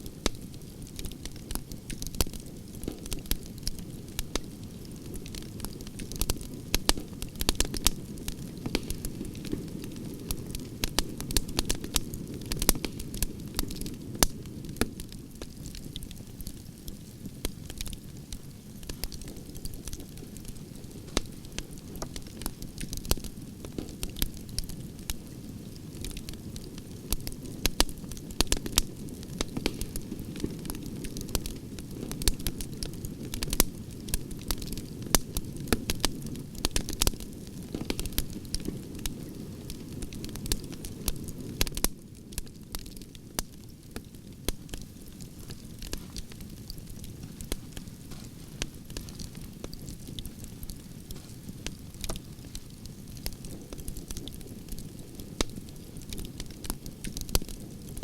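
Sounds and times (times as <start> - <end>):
campfire crackling and popping: 0.0 - 58.0
low rumble of flame: 0.0 - 58.0.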